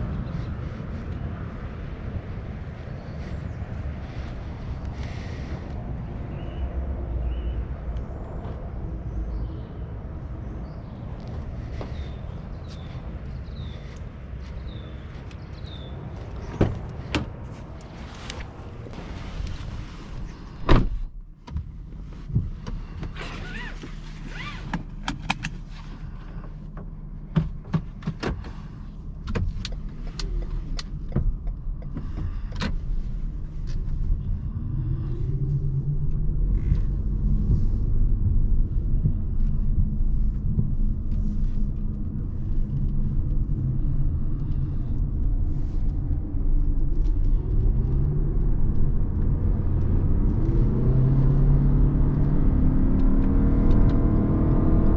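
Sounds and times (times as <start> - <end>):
car engine: 0.0 - 54.9
road noise: 0.0 - 54.9.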